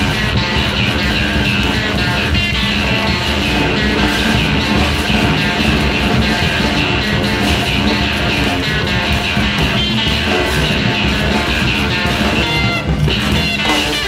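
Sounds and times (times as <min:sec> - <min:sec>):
electric guitar notes ringing: 0:00.0 - 0:14.0
fast drums and cymbals: 0:00.0 - 0:14.0.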